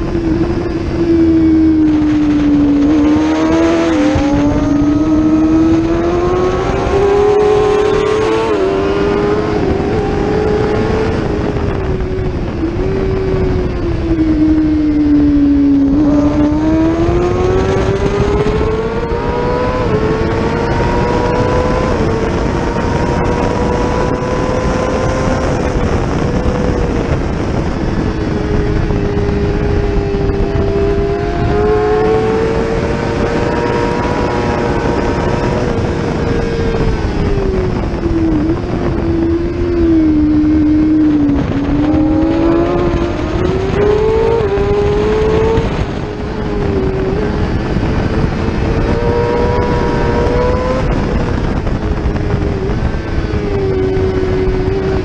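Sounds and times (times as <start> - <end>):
motorcycle engine revving: 0.0 - 55.0
wind noise rushing: 0.0 - 55.0.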